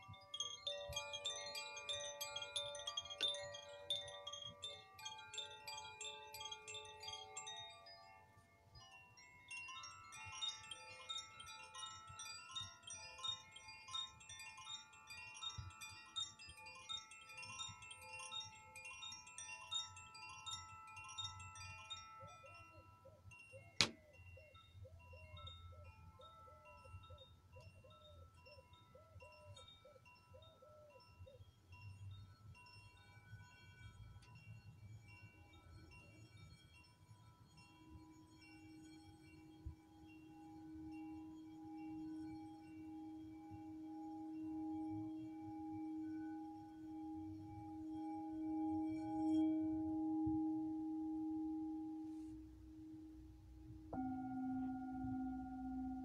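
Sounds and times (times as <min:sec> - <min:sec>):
chimes tinkling: 0:00.0 - 0:56.0
low wavering tone: 0:00.0 - 0:56.0.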